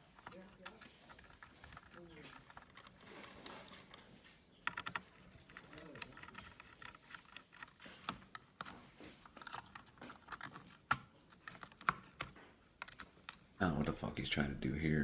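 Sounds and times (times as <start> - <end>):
light clicks and taps of tools: 0.0 - 13.5.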